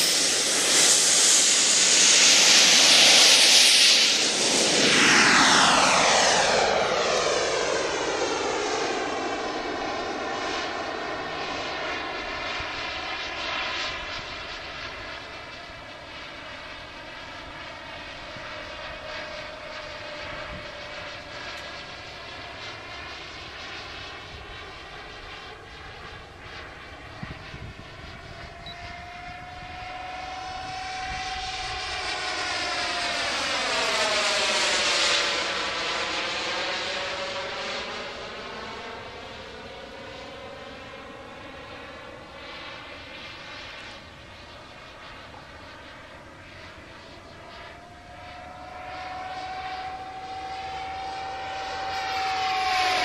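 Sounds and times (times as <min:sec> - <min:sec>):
model plane propeller drone: 0:00.0 - 0:53.0.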